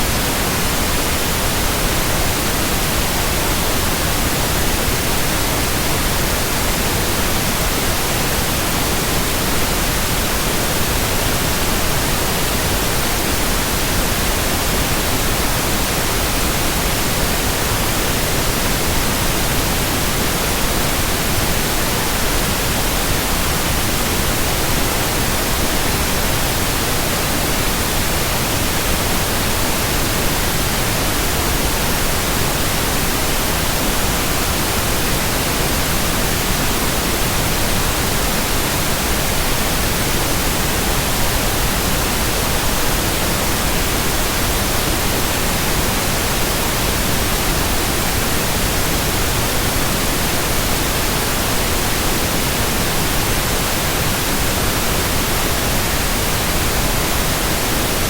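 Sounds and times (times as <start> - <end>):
steady white-noise hiss: 0.0 - 58.0.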